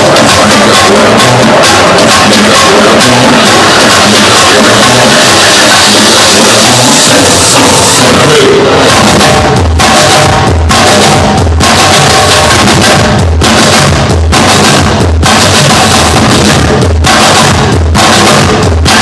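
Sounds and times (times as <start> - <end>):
loud music with drum kit: 0.0 - 19.0
steady bass drum beat: 0.0 - 19.0.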